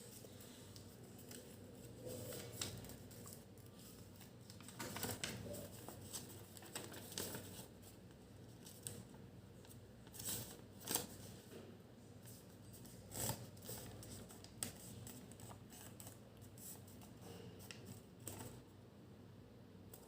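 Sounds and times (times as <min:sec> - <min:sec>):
paper being folded by hand: 0:00.0 - 0:11.5, 0:12.2 - 0:18.7.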